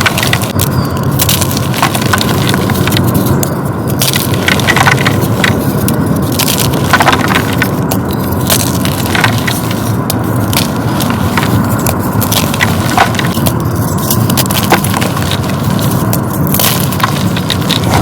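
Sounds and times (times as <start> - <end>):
chalk blocks crunching: 0.0 - 18.0.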